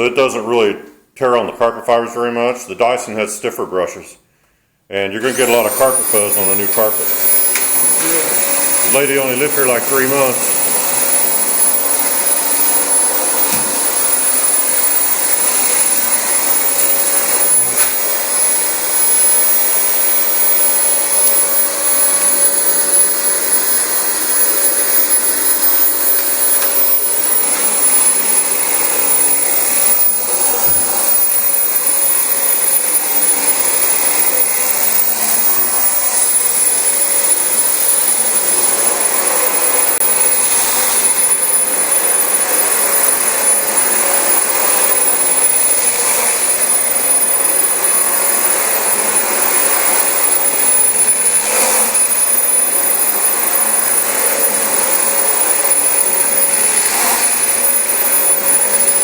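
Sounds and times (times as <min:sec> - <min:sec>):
vacuum cleaner running over carpet: 0:05.2 - 0:53.4.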